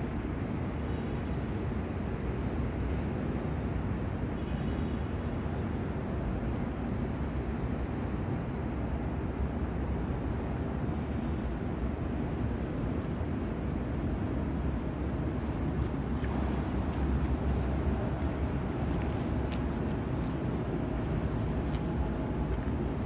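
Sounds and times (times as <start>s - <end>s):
low rumbling background noise: 0.0s - 23.0s.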